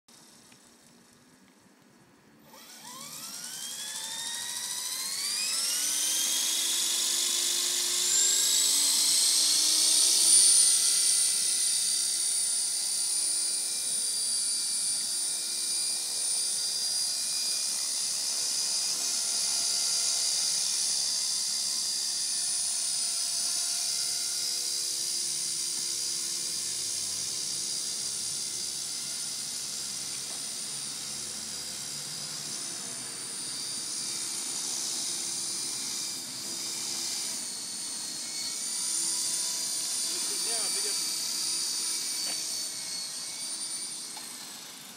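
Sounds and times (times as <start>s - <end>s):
rc helicopter motor whine: 0.1s - 1.4s, 2.4s - 44.9s.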